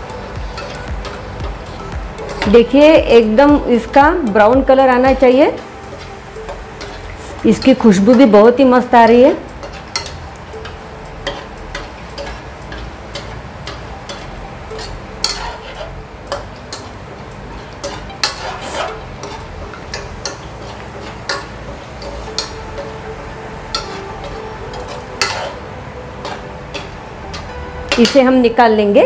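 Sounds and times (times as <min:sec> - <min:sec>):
deep-frying sizzle: 0:00.0 - 0:29.0.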